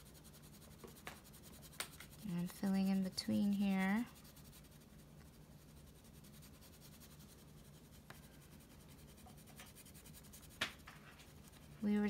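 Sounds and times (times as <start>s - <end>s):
crayon scratching on paper: 0.0s - 12.0s.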